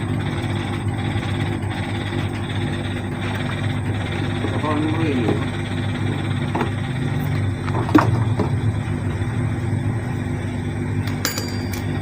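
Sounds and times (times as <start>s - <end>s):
washing machine drum rumbling: 0.0s - 9.8s.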